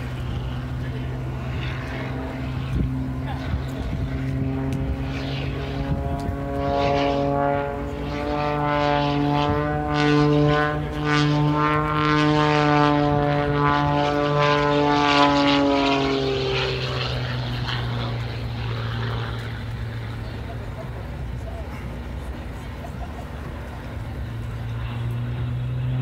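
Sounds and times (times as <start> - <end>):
propeller plane engine droning: 0.0 - 26.0
steady low hum: 0.0 - 26.0.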